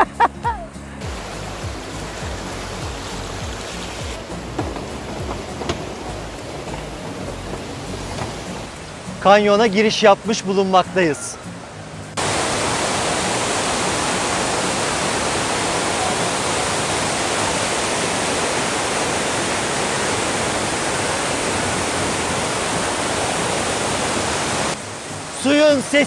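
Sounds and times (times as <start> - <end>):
river rushing: 0.4 - 26.0.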